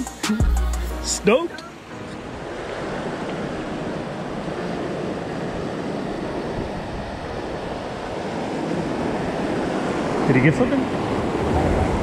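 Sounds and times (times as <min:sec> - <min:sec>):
surf washing over rocks: 0:01.2 - 0:12.0.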